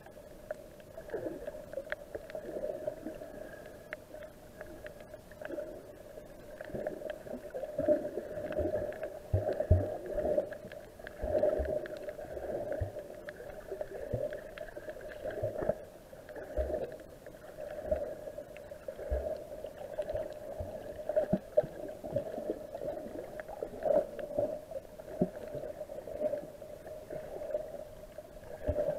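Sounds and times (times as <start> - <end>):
muffled underwater hum: 0.0 - 28.9.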